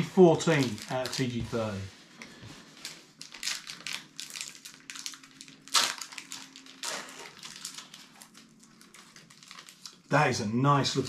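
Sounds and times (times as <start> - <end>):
foil wrappers crinkling: 0.0 - 1.9, 2.6 - 10.1.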